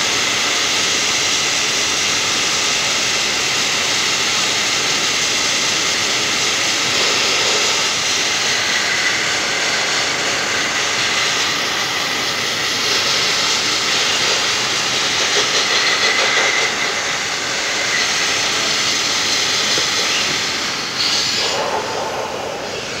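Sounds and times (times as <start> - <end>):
compressed-air blasting nozzle hiss: 0.0 - 23.0.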